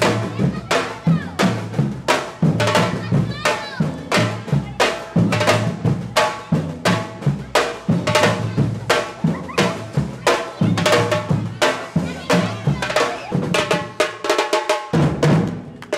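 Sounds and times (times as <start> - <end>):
bass drum beats: 0.0 - 14.2
drum group playing: 0.0 - 15.9.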